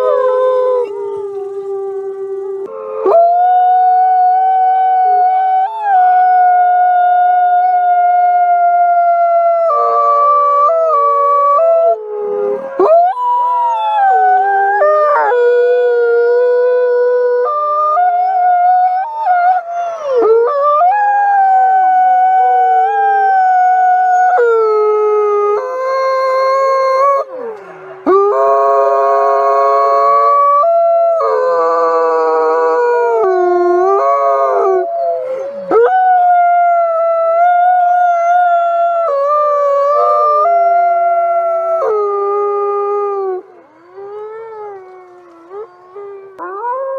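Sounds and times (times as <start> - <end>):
wolves howling in chorus: 0.0 - 46.9.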